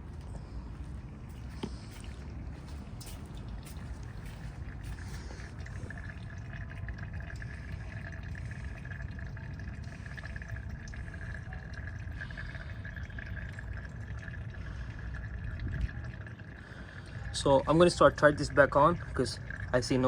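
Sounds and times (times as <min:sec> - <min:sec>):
fluid trickling and dripping: 0:00.0 - 0:20.0.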